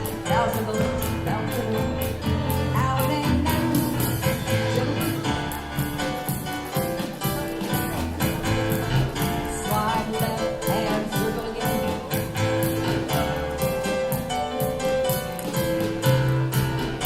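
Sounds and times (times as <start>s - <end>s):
dance band playing: 0.0s - 17.0s.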